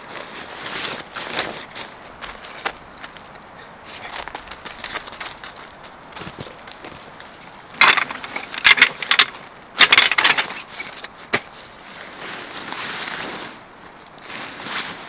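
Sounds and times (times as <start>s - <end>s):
canvas rustling: 0.0s - 9.3s, 11.5s - 15.0s.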